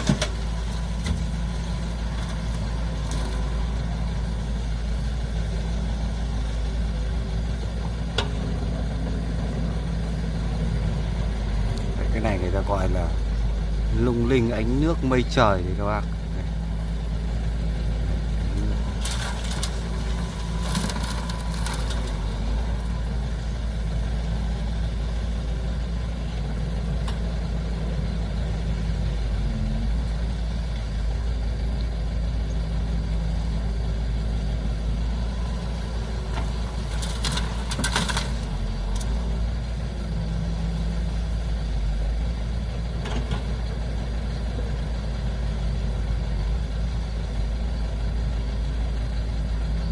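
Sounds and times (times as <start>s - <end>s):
diesel engine humming: 0.0s - 49.9s.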